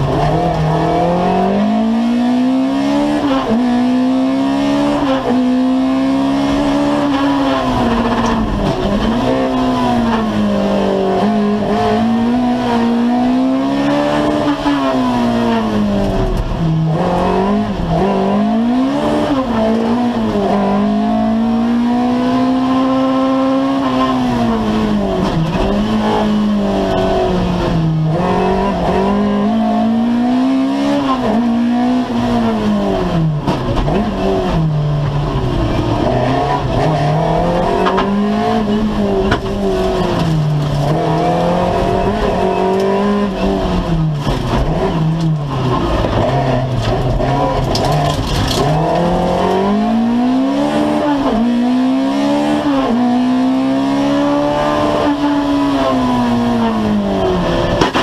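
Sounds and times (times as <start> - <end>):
car engine revving: 0.0 - 58.0
road and tyre noise: 0.0 - 58.0.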